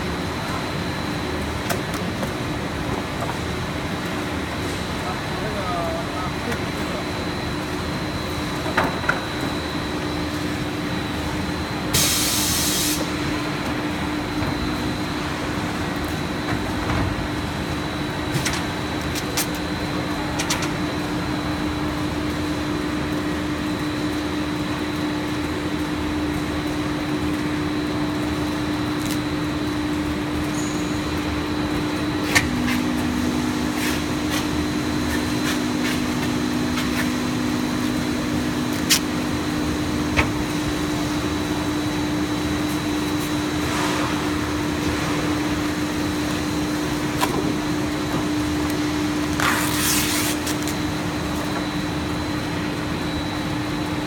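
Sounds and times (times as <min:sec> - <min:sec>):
machine drone with high whine: 0:00.0 - 0:54.0.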